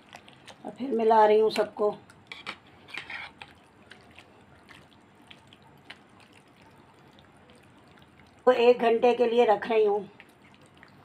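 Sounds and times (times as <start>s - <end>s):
faint wet squelches: 0.0s - 11.0s.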